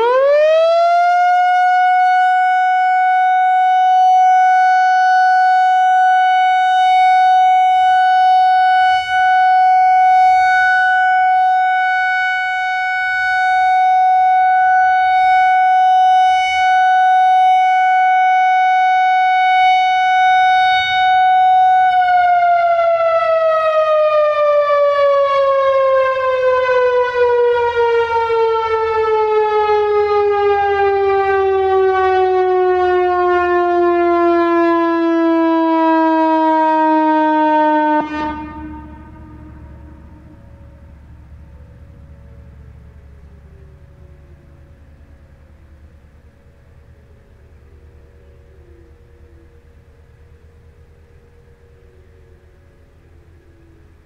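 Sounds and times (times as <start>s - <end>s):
electronic warning siren: 0.0s - 54.0s.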